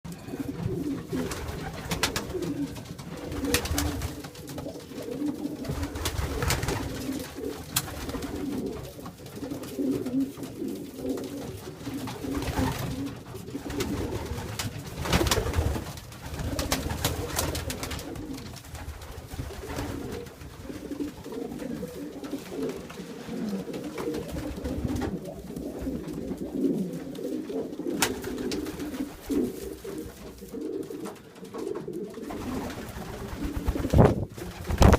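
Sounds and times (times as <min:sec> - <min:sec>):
pigeons cooing: 0:00.1 - 0:34.9.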